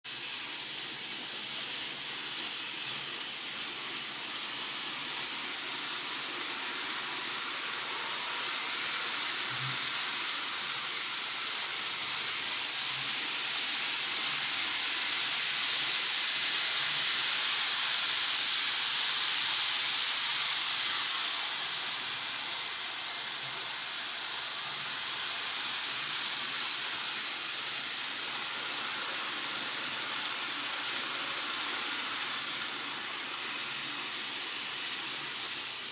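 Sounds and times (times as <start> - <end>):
model train motors and wheels on rail: 0.1 - 35.9.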